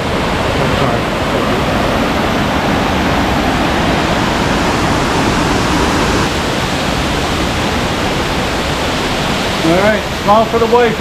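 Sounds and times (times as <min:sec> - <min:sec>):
loud steady rushing noise: 0:00.0 - 0:11.0.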